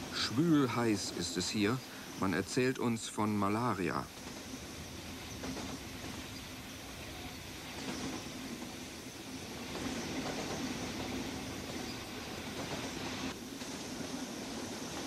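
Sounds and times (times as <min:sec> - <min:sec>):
train running on a bridge: 0:00.0 - 0:15.0.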